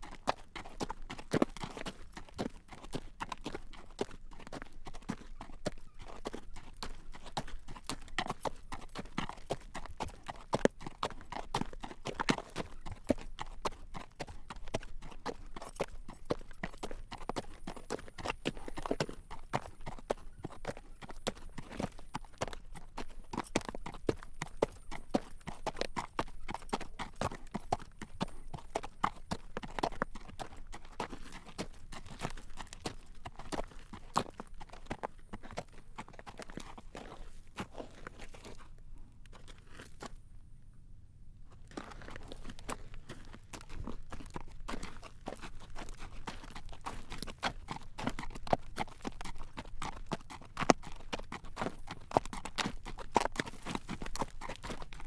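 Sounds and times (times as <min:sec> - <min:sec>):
horse hooves clip-clopping on road: 0:00.0 - 0:40.2, 0:41.5 - 0:55.0.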